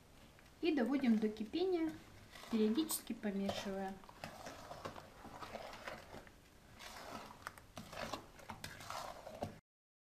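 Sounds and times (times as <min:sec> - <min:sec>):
wet squishing and scraping: 0:01.0 - 0:09.6.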